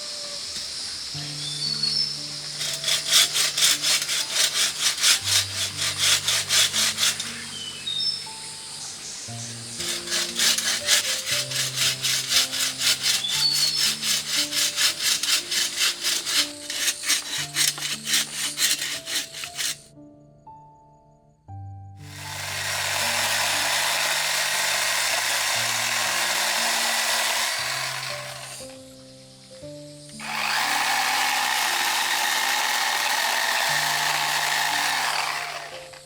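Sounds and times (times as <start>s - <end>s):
soft background music: 0.0s - 36.0s
hand saw cutting wood: 1.9s - 8.1s, 9.7s - 19.9s, 22.0s - 28.7s, 30.2s - 36.0s.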